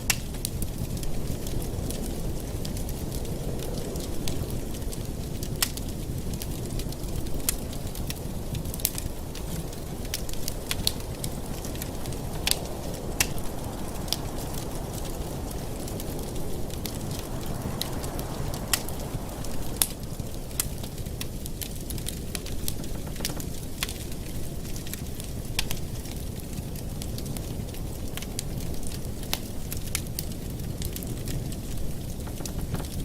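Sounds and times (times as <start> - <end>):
fire crackling and popping: 0.0 - 33.0
fire flames rushing: 0.0 - 33.0.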